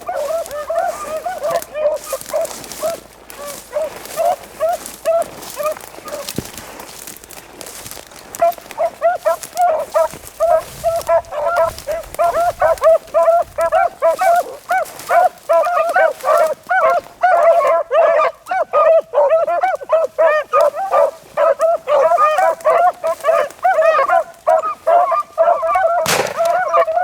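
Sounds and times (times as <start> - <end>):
hounds baying: 0.0 - 27.0.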